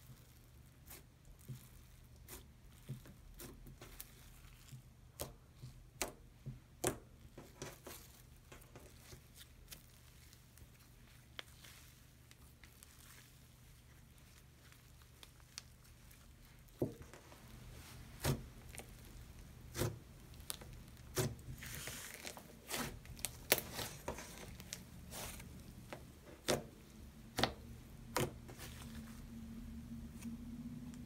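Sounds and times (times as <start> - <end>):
faint steady low hum: 0.0 - 31.0.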